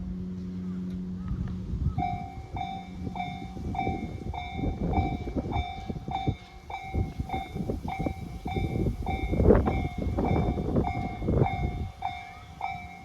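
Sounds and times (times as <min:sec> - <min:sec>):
passing train rumbling: 0:00.0 - 0:13.0
level-crossing warning bell: 0:02.0 - 0:13.0.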